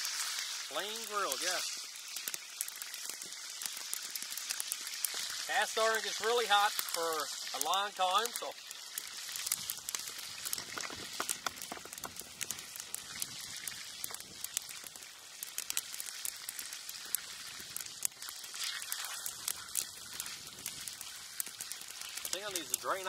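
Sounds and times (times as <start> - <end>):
fat spattering and popping: 0.0 - 7.6, 8.2 - 22.8
burger patties sizzling in grease: 0.0 - 23.0.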